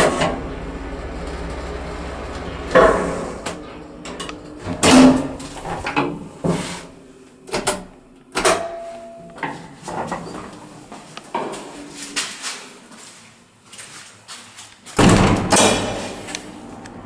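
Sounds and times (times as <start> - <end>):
elevator doors shutting: 0.0 - 12.2, 15.0 - 17.0.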